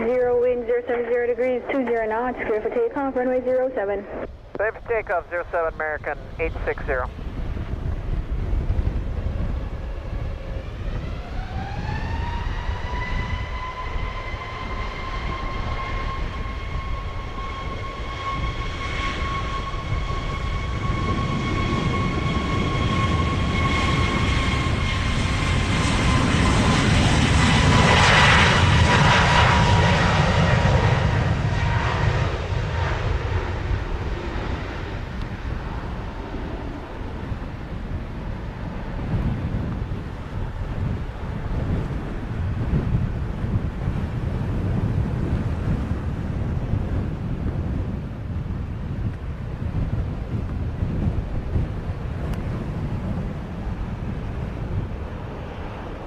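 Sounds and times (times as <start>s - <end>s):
jet engines whining: 0.0s - 56.0s
low jet rumble: 0.0s - 56.0s.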